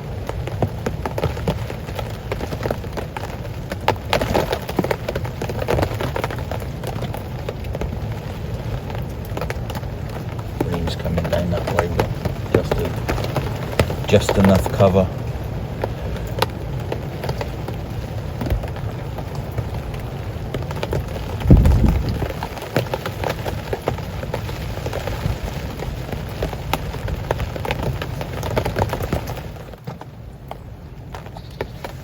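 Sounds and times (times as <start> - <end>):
heavy rain pattering: 0.0 - 32.0.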